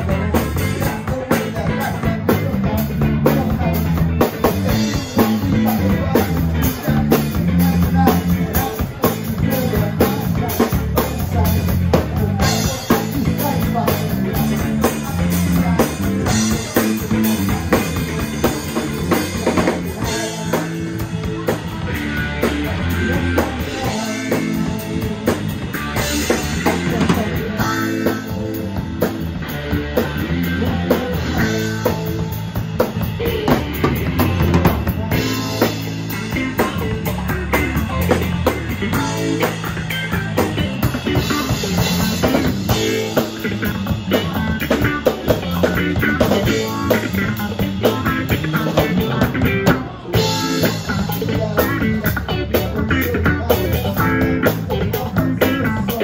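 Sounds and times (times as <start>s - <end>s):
bass guitar notes: 0.0s - 56.0s
drumming: 0.0s - 56.0s
electric guitar: 0.0s - 56.0s
rock band playing: 0.0s - 56.0s.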